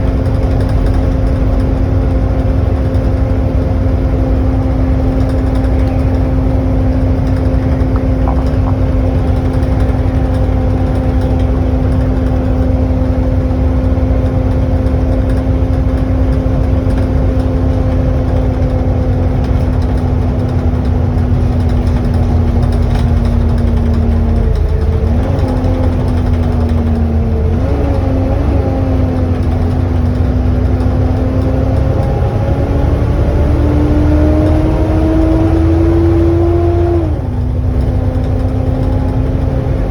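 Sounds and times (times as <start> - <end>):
bus engine low rumble: 0.0 - 39.9
bus engine whine: 0.0 - 39.9.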